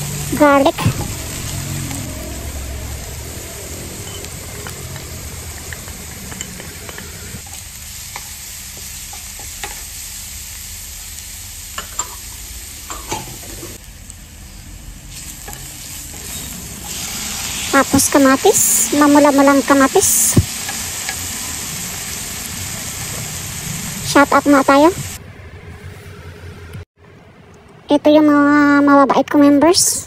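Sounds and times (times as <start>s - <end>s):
onion sizzling in oil: 0.0s - 25.2s.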